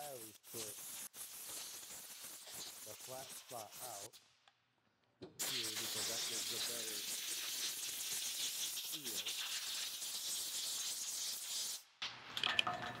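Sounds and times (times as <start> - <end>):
high-pitched hiss: 0.0 - 4.2, 5.4 - 11.8.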